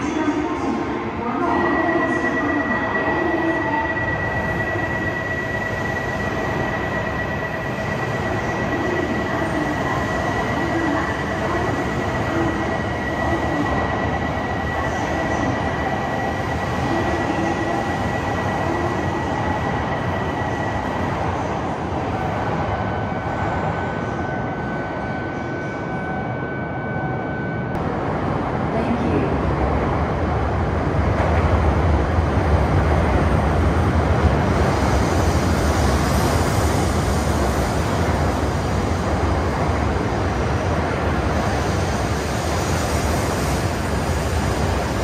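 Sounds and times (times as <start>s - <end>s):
high-pitched train whine: 0.0s - 45.0s.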